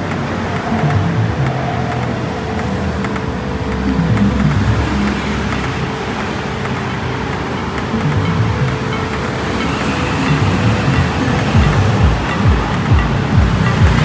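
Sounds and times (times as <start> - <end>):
background music: 0.0 - 14.0
cars and motorbikes passing: 0.0 - 14.0.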